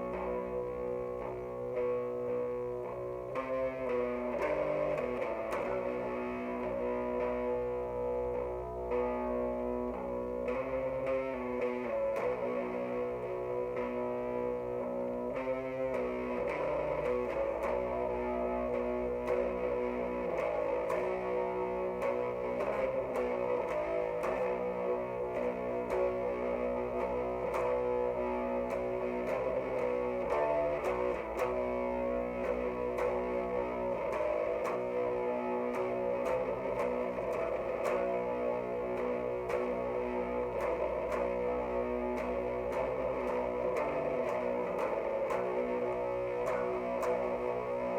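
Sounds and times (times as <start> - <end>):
distorted electric guitar riff: 0.0 - 47.9.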